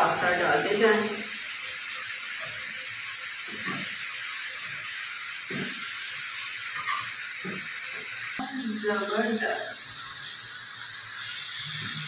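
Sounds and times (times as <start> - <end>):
patties sizzling on a griddle: 0.0 - 12.0.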